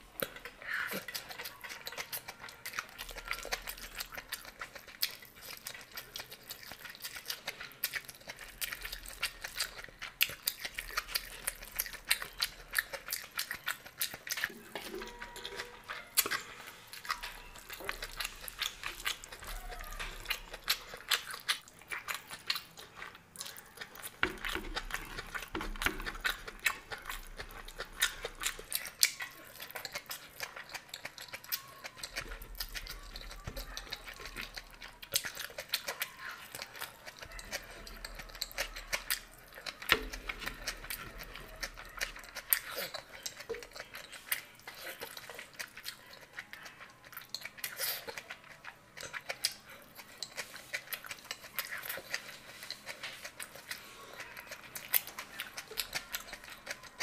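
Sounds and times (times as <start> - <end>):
chewing noodles: 0.0 - 57.0.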